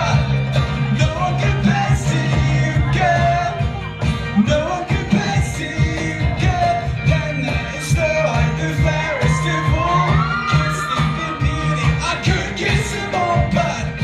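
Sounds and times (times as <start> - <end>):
person singing: 0.0 - 14.0
regular drum beat: 0.0 - 14.0
steady bass line: 0.0 - 14.0.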